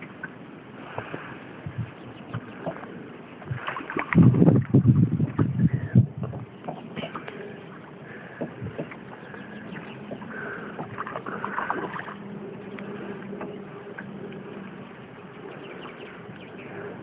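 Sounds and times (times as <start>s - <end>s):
low steady hum: 0.0s - 17.0s
water lapping beside boat: 0.0s - 17.0s.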